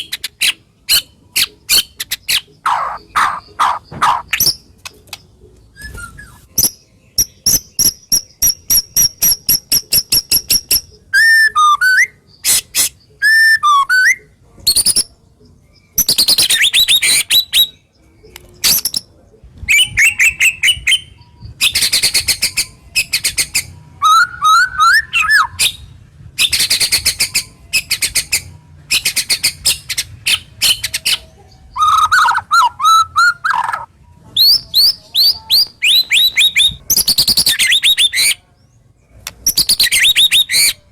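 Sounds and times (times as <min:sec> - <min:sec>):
songbird singing varied song: 0:00.0 - 0:40.9.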